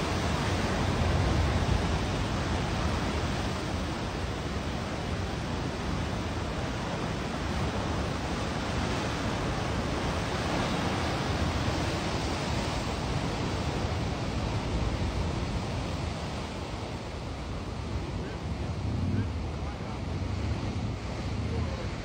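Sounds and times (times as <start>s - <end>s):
surf breaking over rocks: 0.0s - 22.0s.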